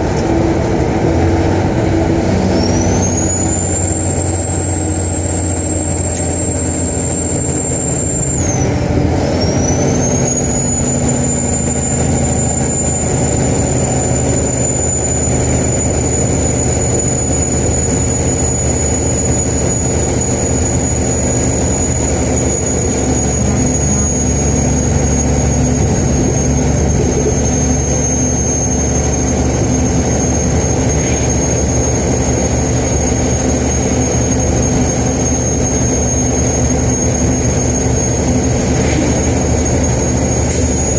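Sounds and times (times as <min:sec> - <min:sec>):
diesel engine running: 0:00.0 - 0:40.9
turbocharger whistle: 0:00.1 - 0:40.9.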